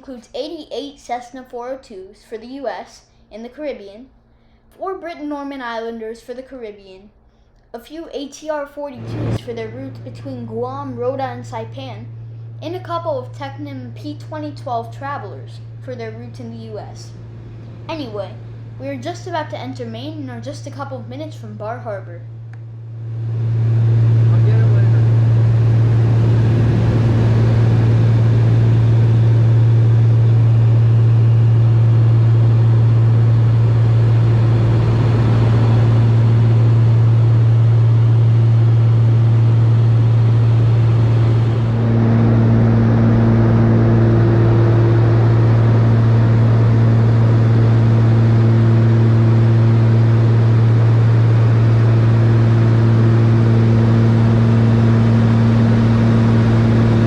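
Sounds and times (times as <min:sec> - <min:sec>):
aircraft piston engines droning: 0:07.3 - 0:57.0.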